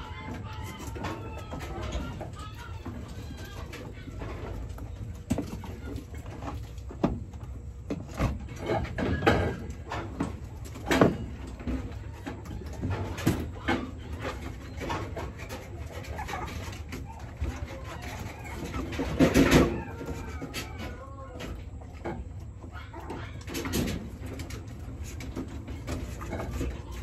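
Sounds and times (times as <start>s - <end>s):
puppies lapping food: 0.0s - 27.0s.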